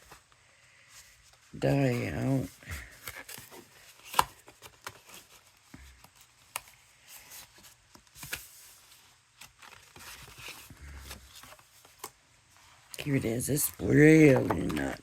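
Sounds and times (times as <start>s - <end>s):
packaging rustling and crinkling: 0.0s - 12.9s.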